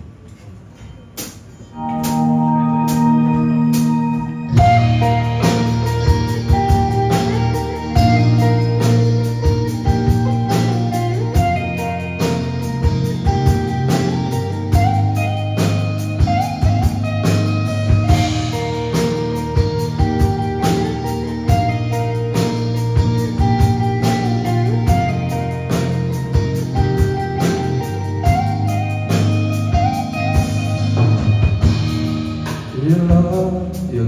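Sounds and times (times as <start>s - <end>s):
drum kit: 0.8s - 34.0s
bass guitar: 1.7s - 34.0s
electric guitar melody: 1.7s - 34.0s.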